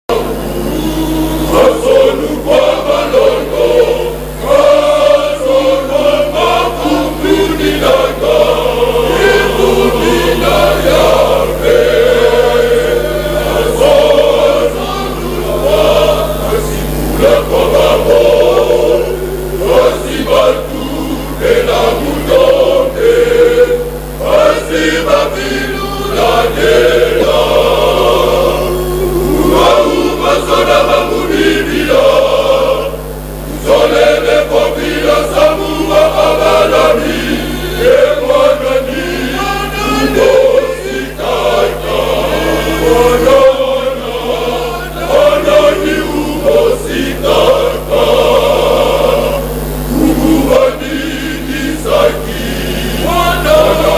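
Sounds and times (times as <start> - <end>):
steady low hum: 0.0 - 53.9
men's choir singing in harmony: 0.1 - 53.9.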